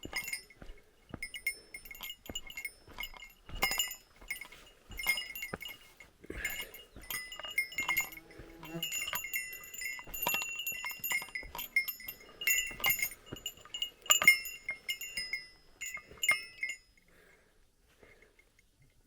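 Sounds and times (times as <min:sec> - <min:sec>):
small metal bell jingling: 0:00.0 - 0:17.1.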